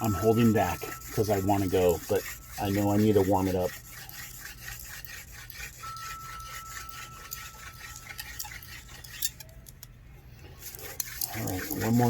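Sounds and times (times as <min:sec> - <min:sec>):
hand drill rubbing on wood: 0:00.0 - 0:09.5, 0:10.4 - 0:12.0
thin steady squeak: 0:00.0 - 0:12.0.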